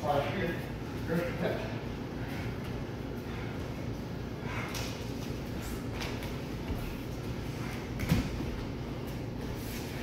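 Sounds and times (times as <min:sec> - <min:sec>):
scuffs and rustles on gym mats: 0:00.0 - 0:10.0
steady low hum: 0:00.0 - 0:10.0.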